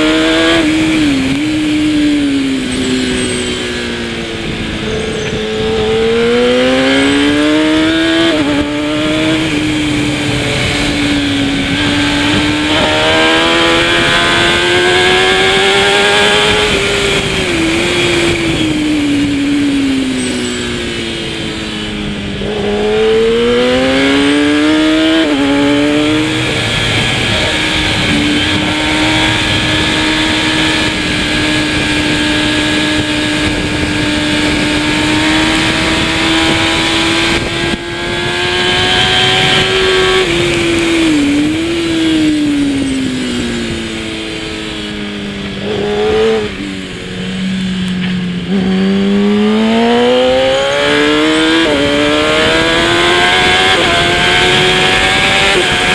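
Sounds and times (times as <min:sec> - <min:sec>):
motorcycle engine revving: 0:00.0 - 0:55.9
wind and road noise: 0:00.0 - 0:55.9.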